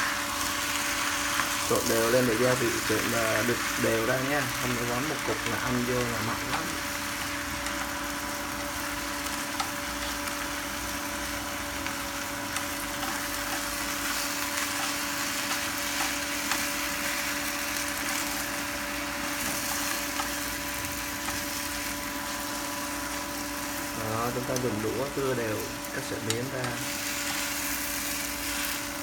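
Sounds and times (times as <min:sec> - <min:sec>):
noodles sizzling in oily pan: 0:00.0 - 0:29.0
steady hum: 0:00.0 - 0:29.0.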